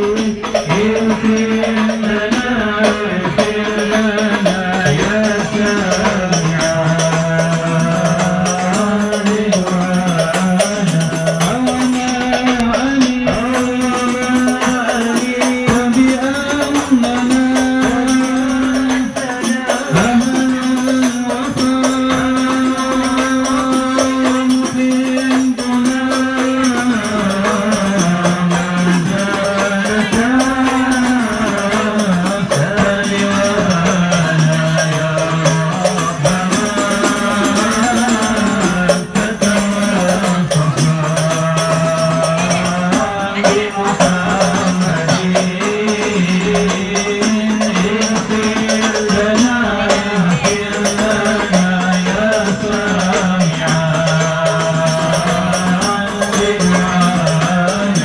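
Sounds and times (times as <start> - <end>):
hand frame drums: 0.0 - 58.0
men chanting a devotional song: 0.0 - 58.0.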